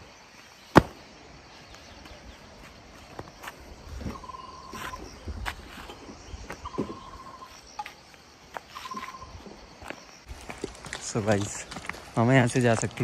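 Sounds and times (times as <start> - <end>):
faint outdoor noise: 0.0 - 13.0
footsteps on dirt track: 2.0 - 9.2, 9.8 - 13.0.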